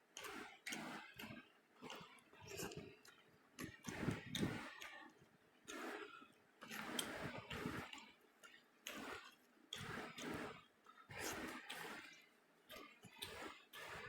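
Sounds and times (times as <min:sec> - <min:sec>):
person chewing food: 0:01.8 - 0:14.0.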